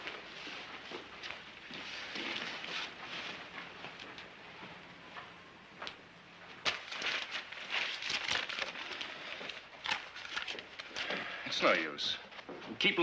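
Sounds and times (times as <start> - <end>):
rustling and scraping of handled things: 0.0 - 13.0.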